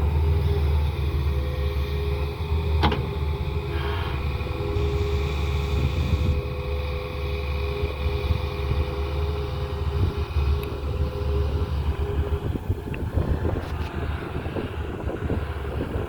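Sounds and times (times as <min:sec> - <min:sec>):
excavator diesel engine under load: 0:00.0 - 0:16.0.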